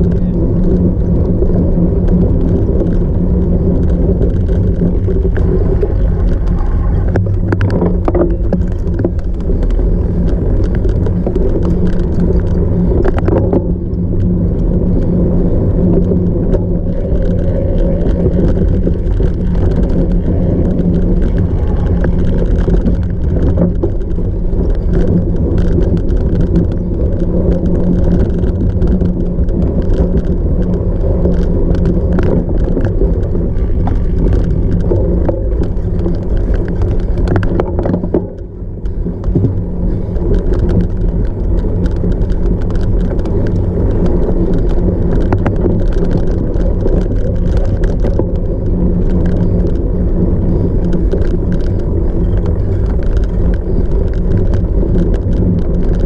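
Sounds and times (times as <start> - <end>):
bike rattling and clicking: 0.0 - 56.0
wind rush: 0.0 - 56.0.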